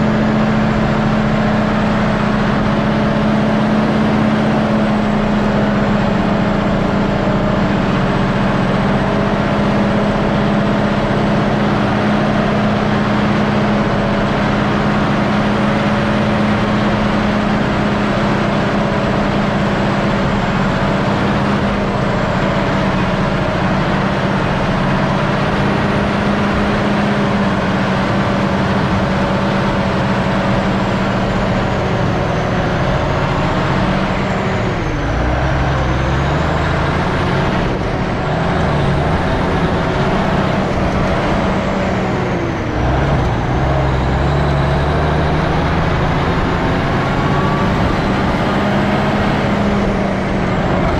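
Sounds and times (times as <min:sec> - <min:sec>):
farm machinery engine running: 0:00.0 - 0:50.9.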